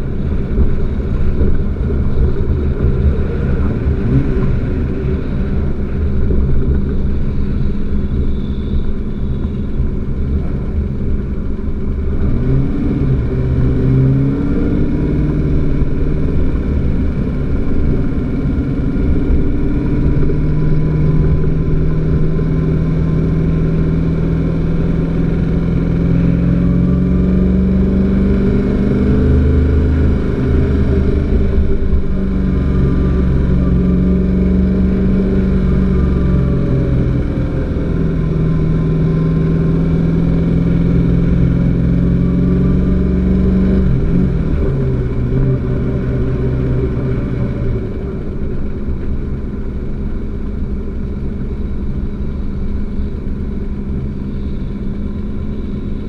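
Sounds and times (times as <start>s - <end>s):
car engine under load: 0.0s - 56.0s.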